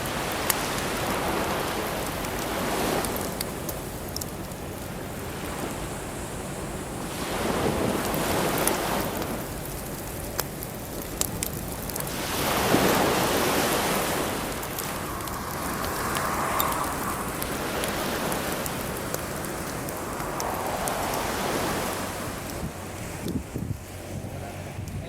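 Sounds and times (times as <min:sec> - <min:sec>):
bonfire popping and crackling: 0:00.0 - 0:25.0
waves washing up beach: 0:00.0 - 0:25.0.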